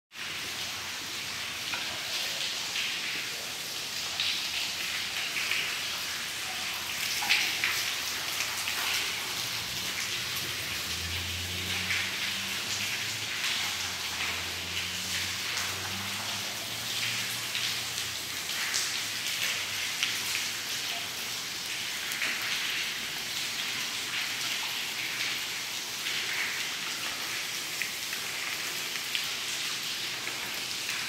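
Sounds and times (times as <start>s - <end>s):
water drops splashing on floor: 1.6s - 31.0s.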